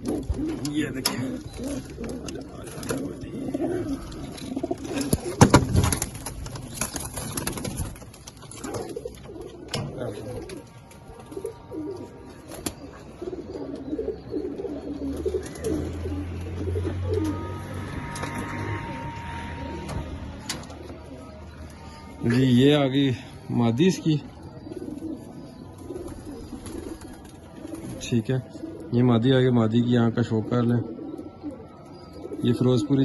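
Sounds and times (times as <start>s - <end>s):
pigeons cooing: 0.0s - 33.0s.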